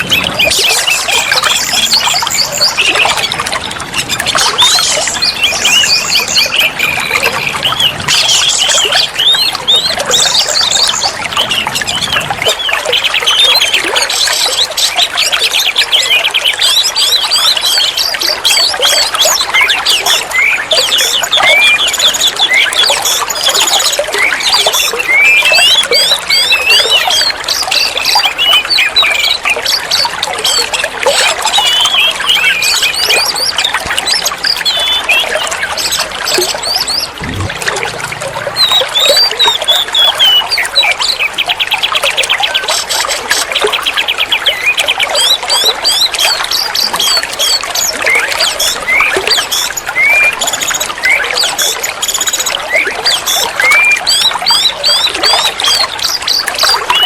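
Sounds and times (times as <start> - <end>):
bird singing chirps and trills: 0.0 - 57.0.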